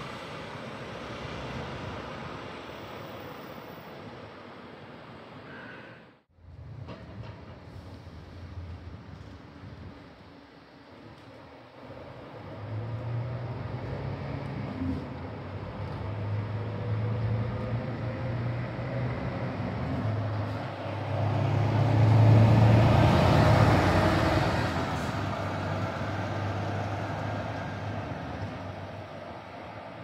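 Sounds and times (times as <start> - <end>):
bus diesel engine passing: 0.0 - 5.8, 6.4 - 30.0
road noise: 0.0 - 30.0.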